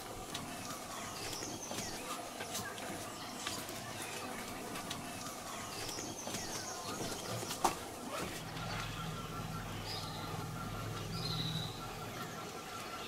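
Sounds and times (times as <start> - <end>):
birds calling faintly: 0.0 - 13.0
low steady hum: 0.0 - 13.0.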